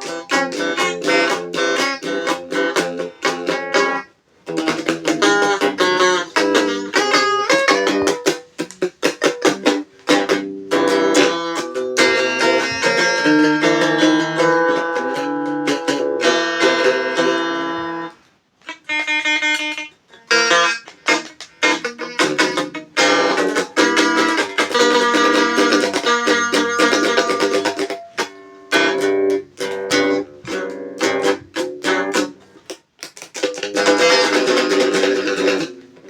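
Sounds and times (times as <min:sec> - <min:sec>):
plucked guitar: 0:00.0 - 0:36.0.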